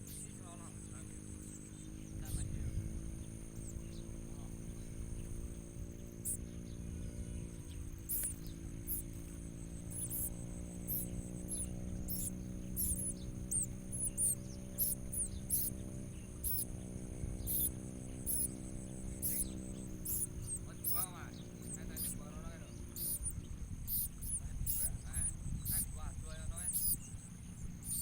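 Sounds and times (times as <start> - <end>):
birds chirping: 0.0 - 28.0
steady high whine: 0.0 - 28.0
steady low hum: 0.0 - 28.0.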